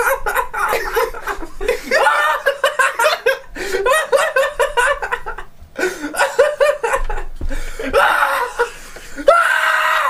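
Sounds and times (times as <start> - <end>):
men laughing: 0.0 - 10.0.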